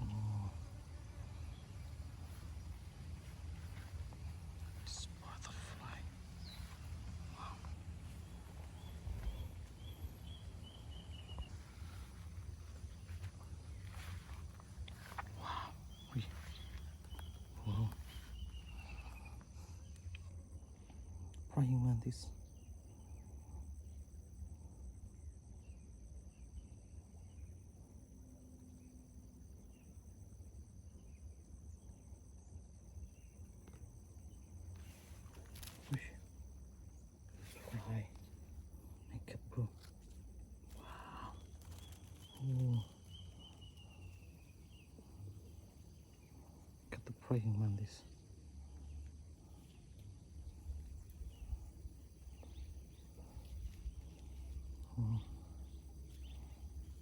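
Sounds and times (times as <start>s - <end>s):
steady low rumble: 0.0s - 27.8s, 33.0s - 57.0s
fast pulsing insect trill: 0.0s - 57.0s
insect drone: 0.0s - 57.0s.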